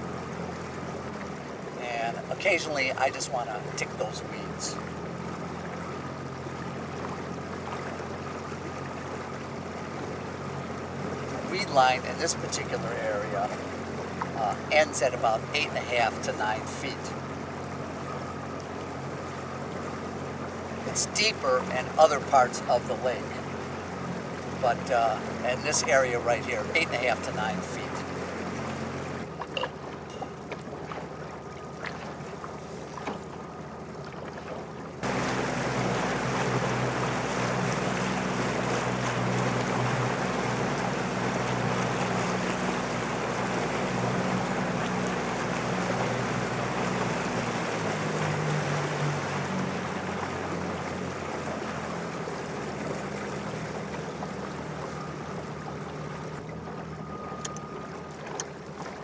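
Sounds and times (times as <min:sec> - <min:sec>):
outboard motor: 0:00.0 - 0:59.0
water rushing past hull: 0:00.0 - 0:59.0
wind: 0:00.0 - 0:59.0.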